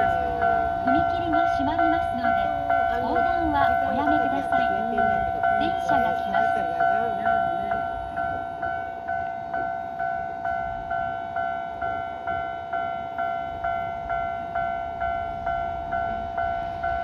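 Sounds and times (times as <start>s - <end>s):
crossing alarm two-tone bell: 0.0s - 17.0s.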